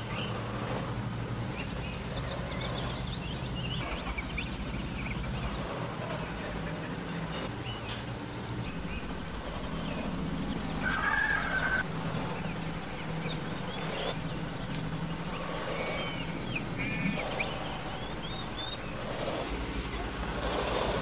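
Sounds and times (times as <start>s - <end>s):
bird chirps and trills: 0.0s - 21.0s
steady low hum: 0.0s - 21.0s.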